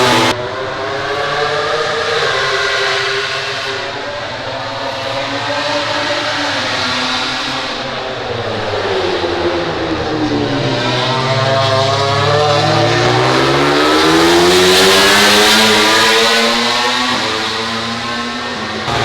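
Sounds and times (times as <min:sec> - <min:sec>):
race bike engines: 0:00.0 - 0:19.0.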